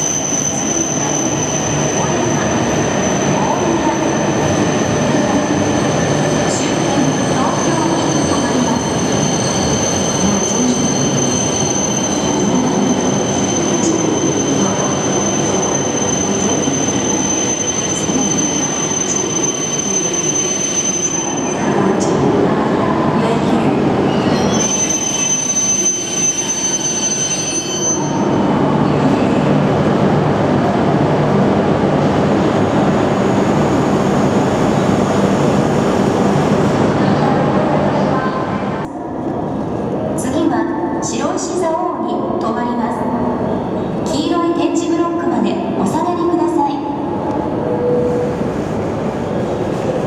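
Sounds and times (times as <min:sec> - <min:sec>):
train passing platform: 0:00.0 - 0:50.0.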